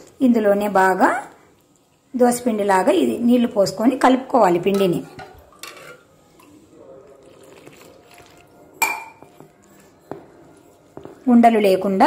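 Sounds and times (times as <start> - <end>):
faint hand mixing sounds: 0.0 - 12.0.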